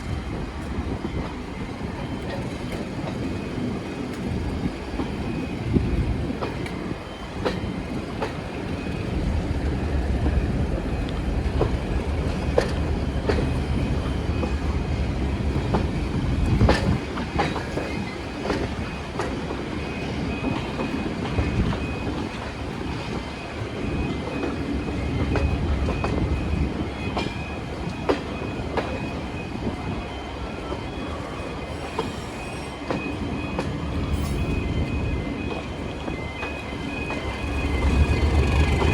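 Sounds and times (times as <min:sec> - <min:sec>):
diesel train engine rumble: 0:00.0 - 0:38.9.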